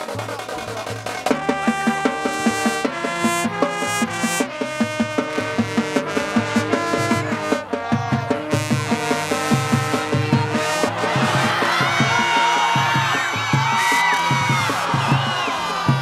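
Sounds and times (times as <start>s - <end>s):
drumline beat: 0.0s - 16.0s
brass chords: 1.1s - 16.0s.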